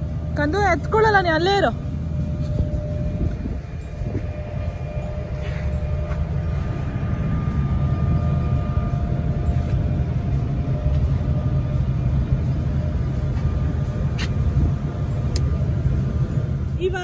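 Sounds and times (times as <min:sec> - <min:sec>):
faint steady hum: 0:00.0 - 0:17.0
ship engine rumble: 0:00.0 - 0:17.0.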